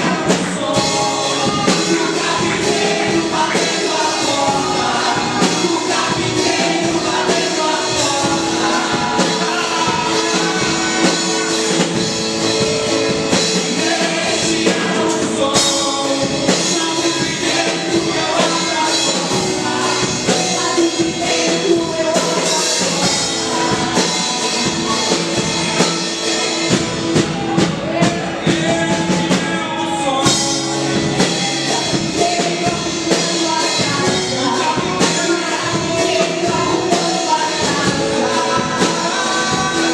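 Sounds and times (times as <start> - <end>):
band playing worship song: 0.0 - 39.9
people singing: 0.0 - 39.9.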